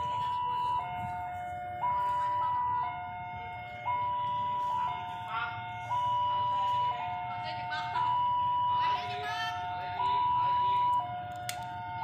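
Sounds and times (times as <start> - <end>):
level-crossing warning chime: 0.0 - 12.0.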